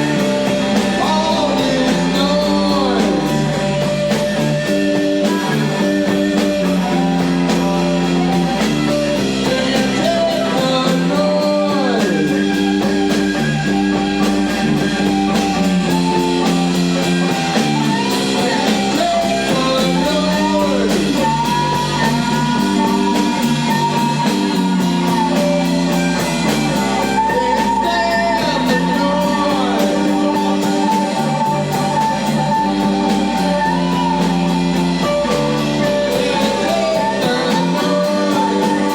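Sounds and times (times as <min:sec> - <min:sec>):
lead guitar bending lines: 0:00.0 - 0:38.9
rock band playing live: 0:00.0 - 0:38.9.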